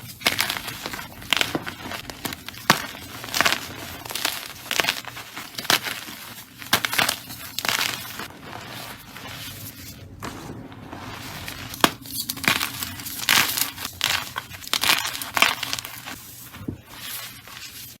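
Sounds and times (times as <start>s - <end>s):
slime crunchy crackles: 0.0s - 18.0s.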